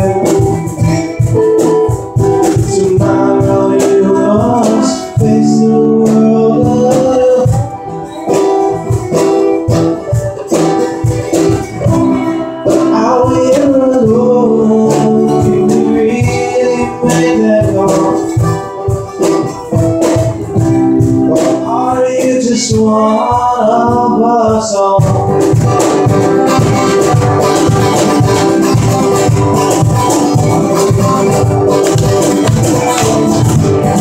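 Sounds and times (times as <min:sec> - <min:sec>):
man singing: 0:00.0 - 0:08.3, 0:11.7 - 0:29.7, 0:30.3 - 0:34.0
strummed acoustic guitar: 0:00.0 - 0:34.0.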